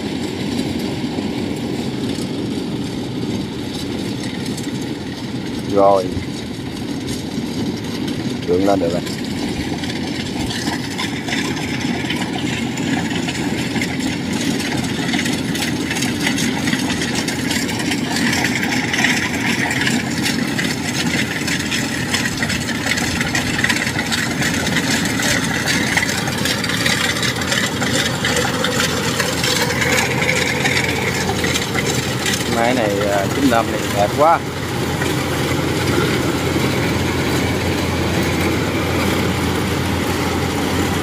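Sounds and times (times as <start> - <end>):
combine harvester engine running: 0.0 - 41.0.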